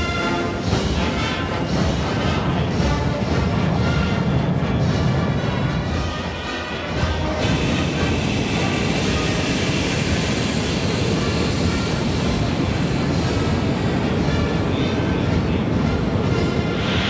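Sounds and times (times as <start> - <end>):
aircraft engines roaring: 0.0 - 17.0.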